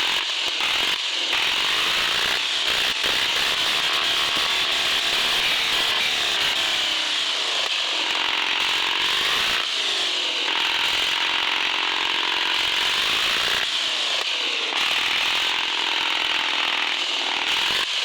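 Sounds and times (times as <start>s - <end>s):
electric motor and gearbox whining: 0.0s - 18.0s.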